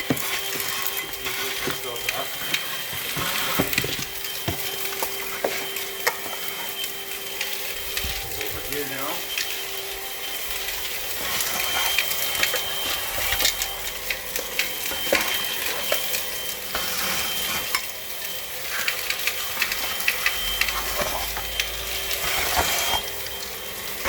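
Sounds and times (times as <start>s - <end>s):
debris clattering through vacuum: 0.0s - 24.0s
vacuum cleaner running: 0.0s - 24.0s.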